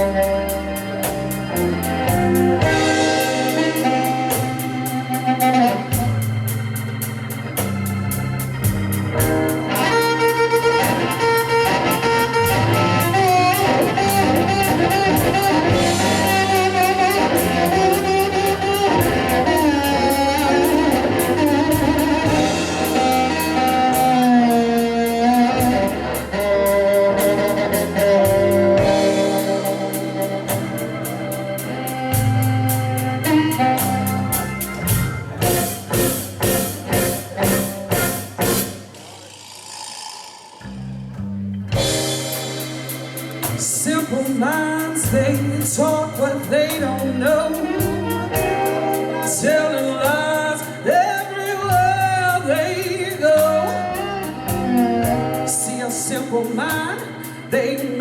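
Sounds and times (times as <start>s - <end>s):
organ: 0.0s - 39.4s, 41.6s - 58.0s
drums with steady cymbal beat: 0.0s - 40.6s, 41.7s - 58.0s
bass: 0.0s - 58.0s
lead guitar bending notes: 0.0s - 58.0s.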